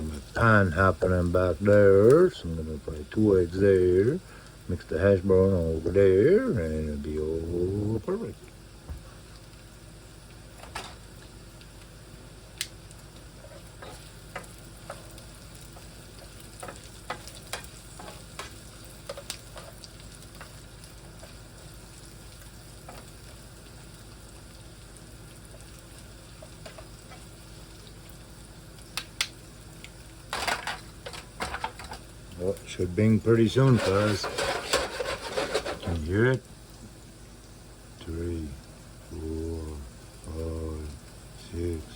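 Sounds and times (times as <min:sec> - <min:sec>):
food sizzling in a frying pan: 0:00.0 - 0:41.9
low steady hum: 0:00.0 - 0:41.9.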